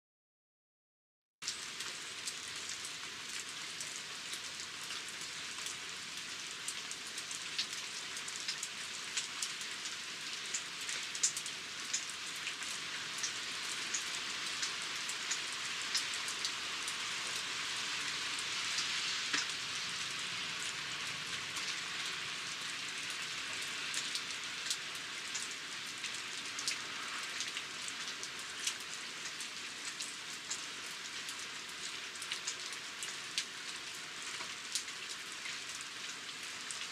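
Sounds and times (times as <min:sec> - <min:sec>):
steady rain hiss: 0:01.5 - 0:36.9.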